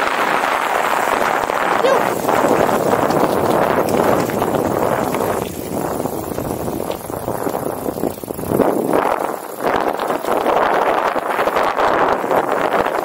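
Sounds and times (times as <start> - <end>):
bicycle rattling on rough track: 0.0 - 13.0
wind buffeting microphone: 0.0 - 13.0.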